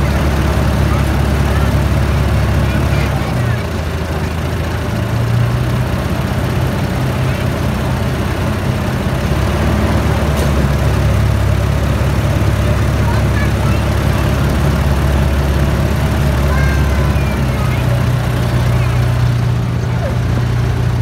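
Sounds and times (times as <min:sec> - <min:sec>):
miniature train running on track: 0:00.0 - 0:21.0.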